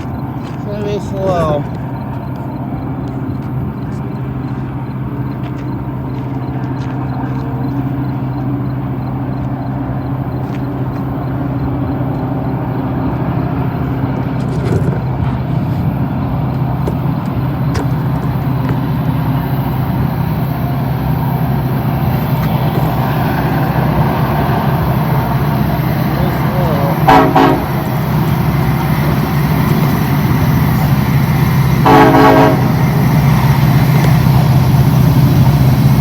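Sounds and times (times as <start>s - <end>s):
diesel locomotive engine drone: 0.0s - 36.0s
faint train clanks: 0.0s - 36.0s.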